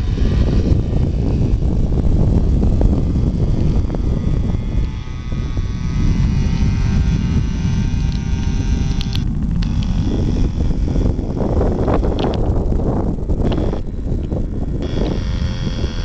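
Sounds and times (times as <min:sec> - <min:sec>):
model airplane engine droning: 0:00.0 - 0:16.0
wind noise on microphone: 0:00.0 - 0:16.0.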